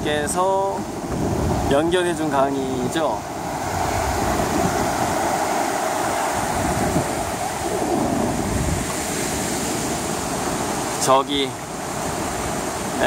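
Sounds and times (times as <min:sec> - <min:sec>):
waves washing up a beach: 0:00.0 - 0:13.0
wind buffeting microphone: 0:00.0 - 0:13.0.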